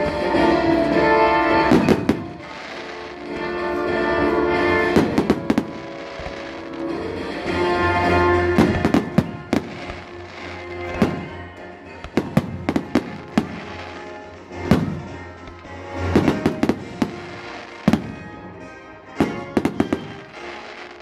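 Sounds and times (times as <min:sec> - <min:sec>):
background music: 0:00.0 - 0:21.0
fireworks bangs and cracks: 0:00.0 - 0:21.0.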